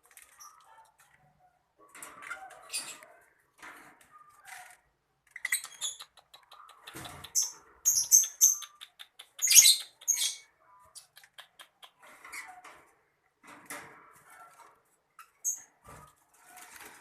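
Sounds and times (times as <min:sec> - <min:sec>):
birds squeaking and chirping: 0:00.2 - 0:01.2, 0:01.9 - 0:03.4, 0:04.0 - 0:13.0, 0:14.2 - 0:17.0.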